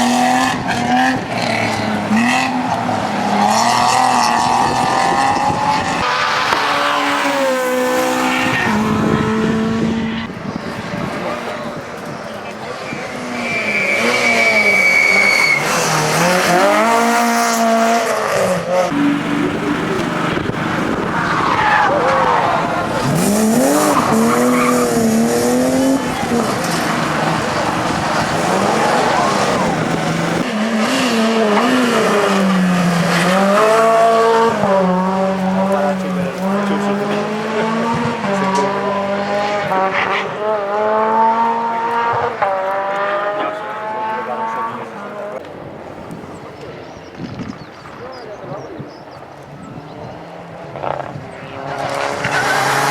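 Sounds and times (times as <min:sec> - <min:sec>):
rally car engine revving: 0:00.0 - 0:48.0, 0:49.3 - 0:52.9
tyre and road noise: 0:00.0 - 0:52.9.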